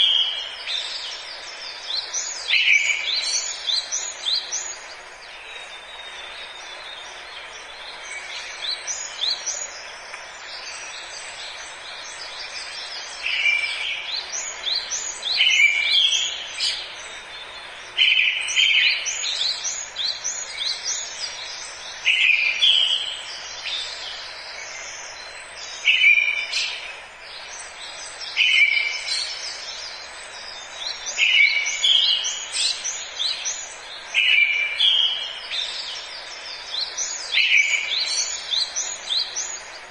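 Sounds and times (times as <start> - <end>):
birds chirping and singing: 0.0 - 39.9
steady background hiss: 0.0 - 39.9.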